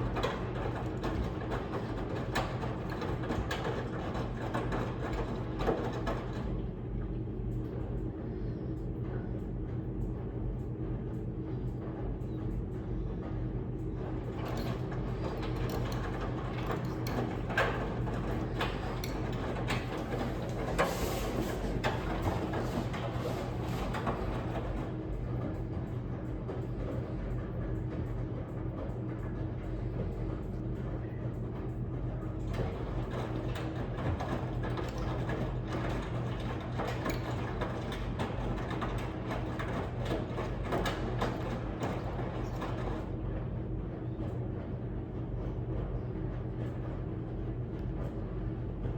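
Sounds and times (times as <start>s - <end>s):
washing machine motor hum: 0.0s - 48.9s.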